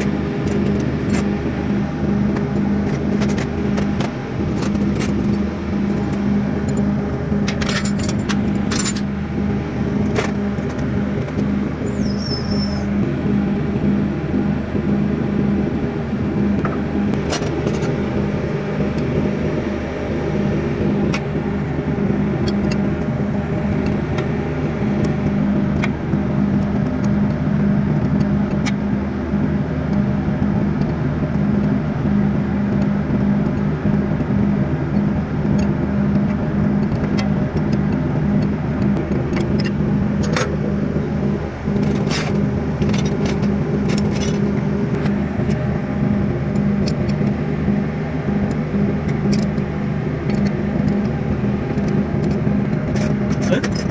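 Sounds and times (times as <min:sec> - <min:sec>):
engine droning: 0:00.0 - 0:53.9.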